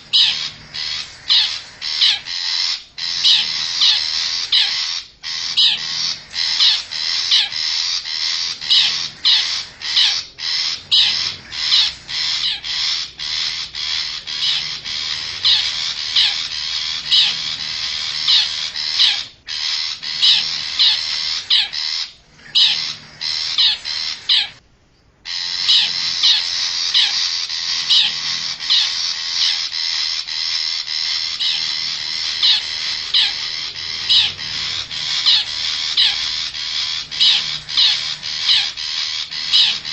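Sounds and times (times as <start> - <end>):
shrike harsh scratchy calls: 0.0 - 24.6, 25.2 - 39.9.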